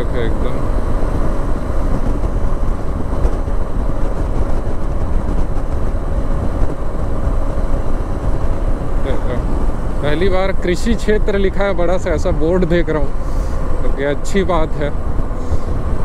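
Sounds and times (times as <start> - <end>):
faint engine hum: 0.0 - 16.0
wind rumble and road noise: 0.0 - 16.0.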